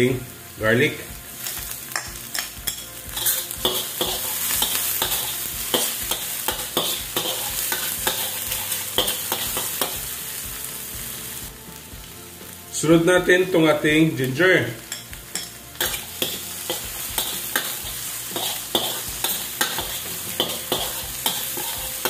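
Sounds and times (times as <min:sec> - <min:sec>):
onion sizzling in hot oil: 0:00.0 - 0:22.0
metal spatula scraping wok: 0:00.8 - 0:11.4, 0:14.6 - 0:22.0.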